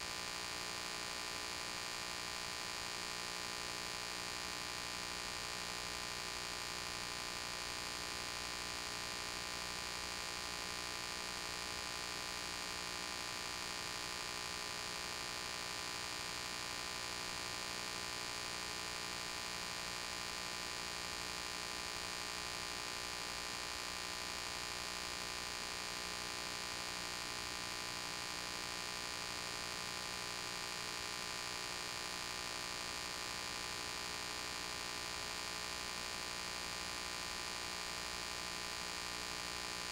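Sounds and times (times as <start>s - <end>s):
electrical hum with hiss: 0.0s - 39.9s.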